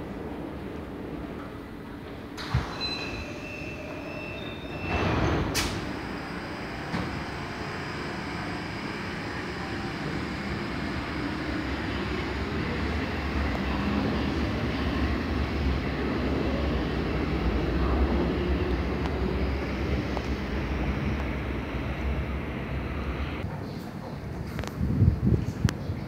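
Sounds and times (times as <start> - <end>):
underground train rumbling: 0.0 - 26.0.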